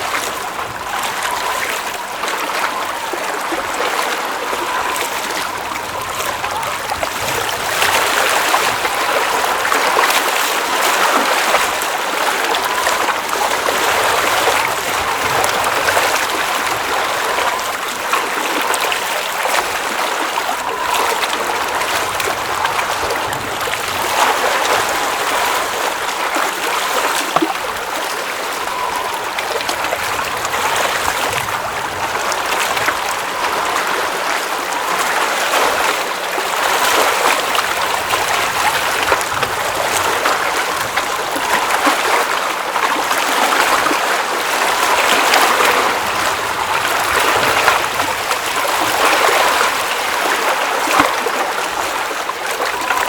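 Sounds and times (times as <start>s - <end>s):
water running and babbling: 0.0s - 53.0s.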